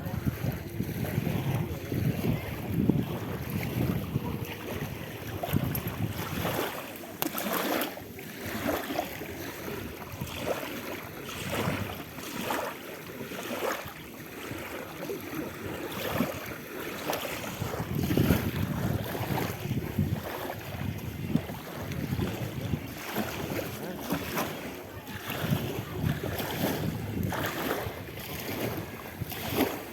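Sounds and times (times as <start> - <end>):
wind buffeting microphone: 0.0 - 6.9, 8.4 - 12.2, 15.6 - 29.9
sea waves washing: 0.0 - 29.9.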